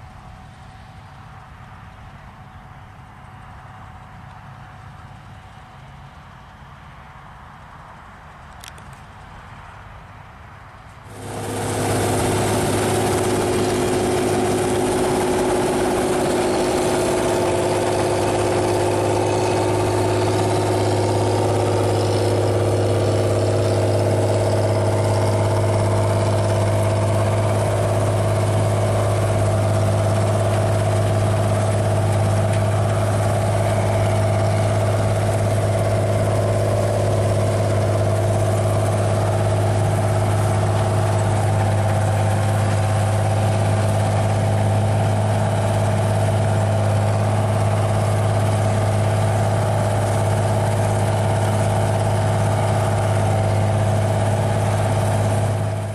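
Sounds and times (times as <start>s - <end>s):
combine harvester engine humming: 0.0s - 9.4s, 10.8s - 55.9s.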